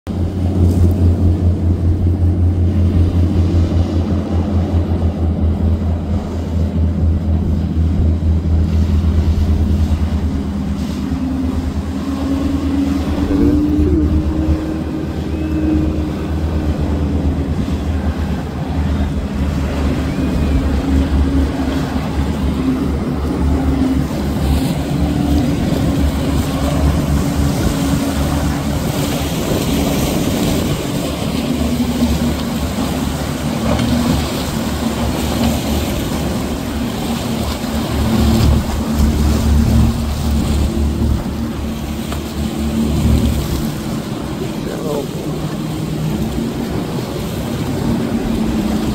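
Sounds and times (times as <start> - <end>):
constant low rumble: 0.1 - 48.9
motorboat engines droning: 0.1 - 48.9.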